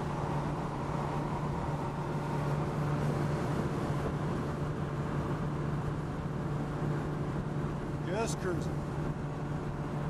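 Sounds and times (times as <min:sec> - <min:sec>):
road and wind noise: 0:00.0 - 0:10.0
small engine droning: 0:00.0 - 0:10.0.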